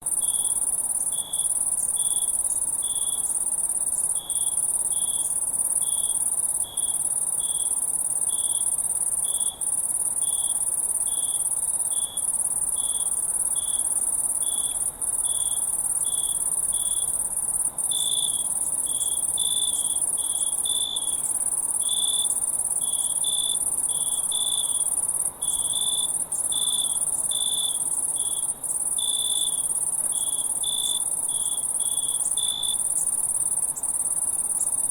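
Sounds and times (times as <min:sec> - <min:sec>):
crickets trilling: 0:00.1 - 0:34.9
nearby cricket chirping: 0:00.1 - 0:34.9.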